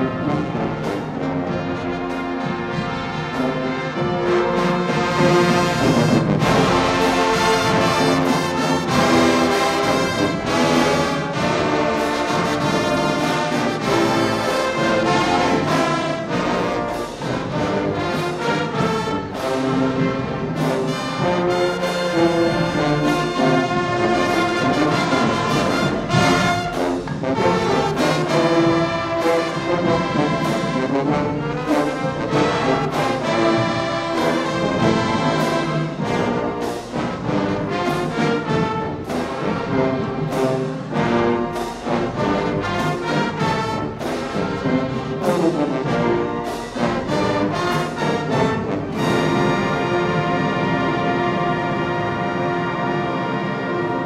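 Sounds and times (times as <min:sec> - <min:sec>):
driving drum beat: 0:00.0 - 0:50.3
brass-heavy tune: 0:00.0 - 0:54.0
marching band playing: 0:00.0 - 0:54.0.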